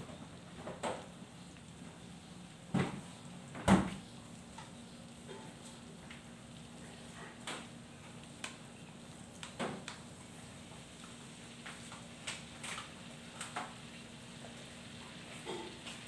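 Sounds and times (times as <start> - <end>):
oil crackling and popping: 0.0 - 16.0
sauce sizzling in oil: 0.1 - 16.0.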